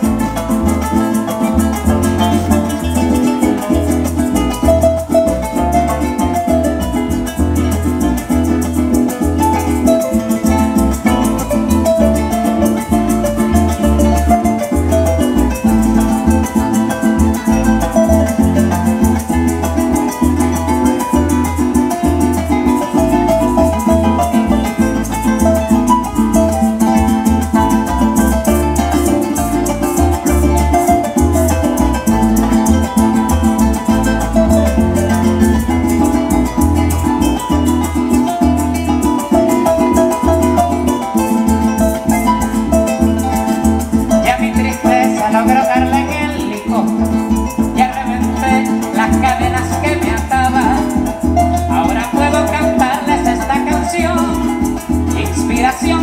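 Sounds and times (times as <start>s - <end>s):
cuatro strumming: 0.0s - 56.0s
electric bass: 0.0s - 56.0s
harp: 0.0s - 56.0s.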